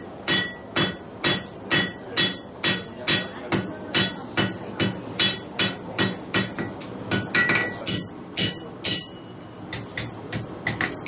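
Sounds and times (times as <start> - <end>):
hammer striking iron on anvil: 0.2 - 11.0.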